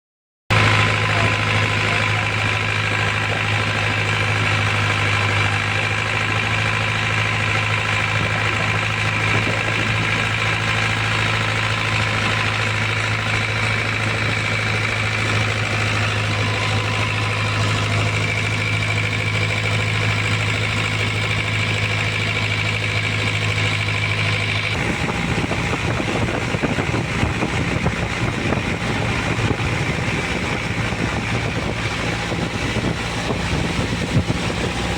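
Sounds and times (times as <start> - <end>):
boat engine humming: 0.5 - 34.9
rough rushing noise: 0.5 - 34.9.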